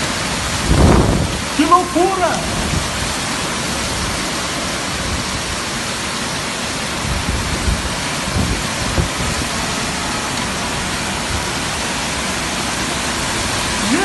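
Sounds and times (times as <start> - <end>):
heavy rain pouring: 0.0 - 14.0
low gusty rumbles: 0.0 - 14.0.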